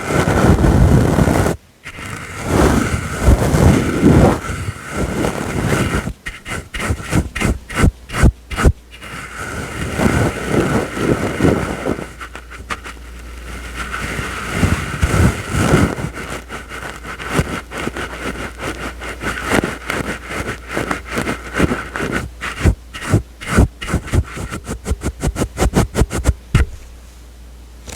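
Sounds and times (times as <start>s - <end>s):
brush bristles swishing: 1.9s - 26.9s.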